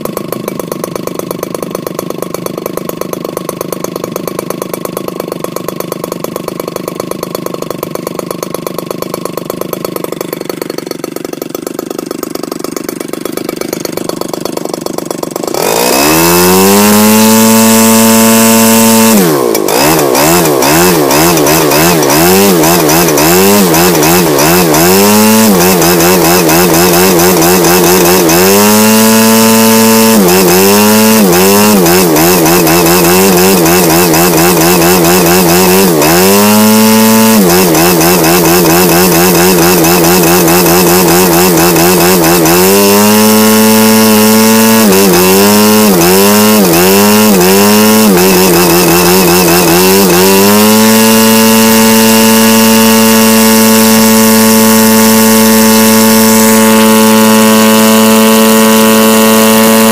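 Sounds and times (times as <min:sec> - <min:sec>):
model aircraft engine revving: 0:00.0 - 0:59.9.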